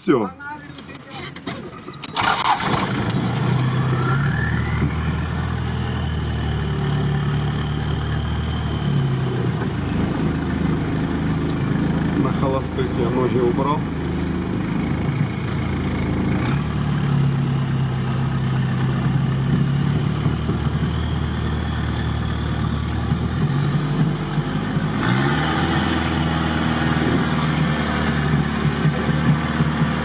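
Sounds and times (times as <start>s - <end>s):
car engine idling: 0.4s - 30.0s
engine revving up: 2.2s - 30.0s.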